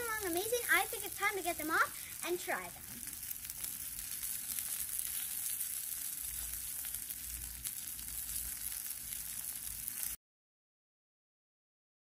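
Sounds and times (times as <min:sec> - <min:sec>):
food sizzling on griddle: 0:00.0 - 0:10.2.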